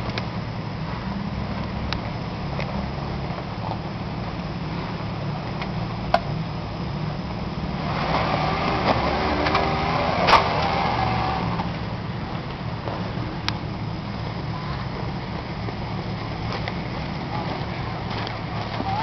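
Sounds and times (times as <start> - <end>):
engine running under load: 0.0 - 19.0.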